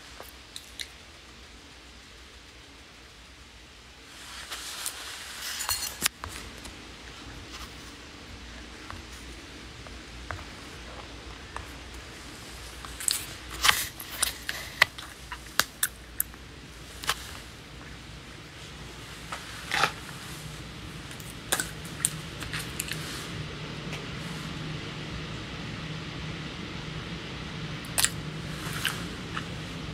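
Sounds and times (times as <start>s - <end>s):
faint hum: 0.0s - 29.9s.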